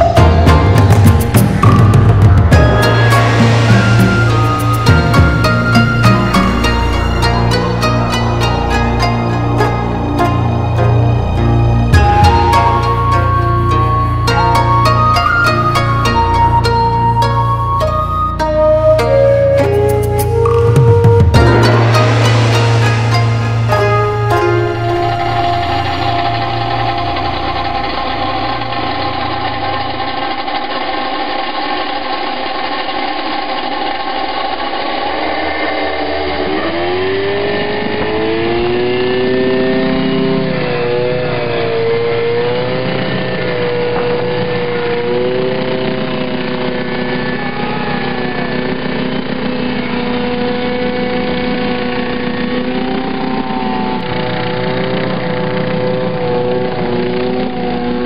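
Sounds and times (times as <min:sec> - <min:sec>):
small helicopter engine drone: 0:00.0 - 0:58.0.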